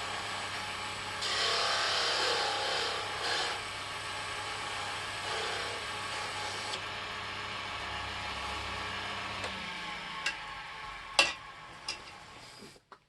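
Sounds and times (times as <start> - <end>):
lathe motor humming: 0.0 - 12.6.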